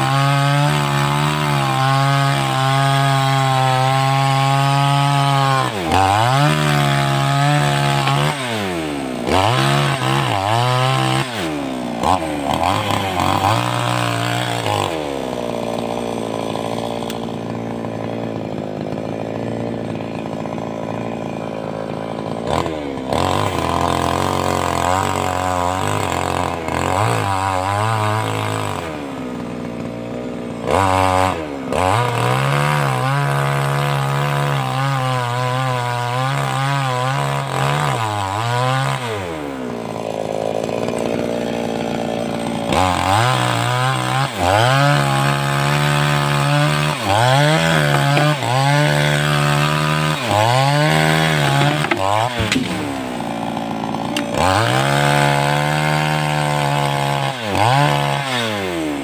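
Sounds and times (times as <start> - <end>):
chainsaw revving and cutting logs: 0.0 - 59.0.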